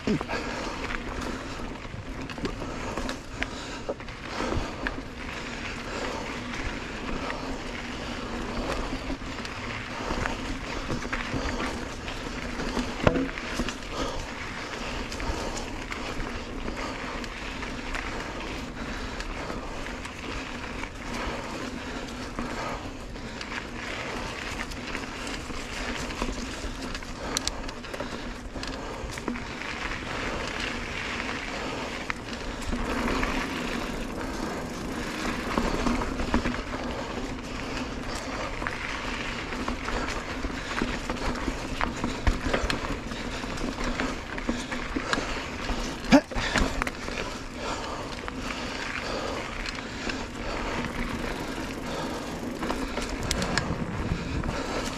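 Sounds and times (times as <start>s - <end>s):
bike clicks and rattles: 0.0s - 54.9s
bike tyres rolling on dirt: 0.0s - 54.9s.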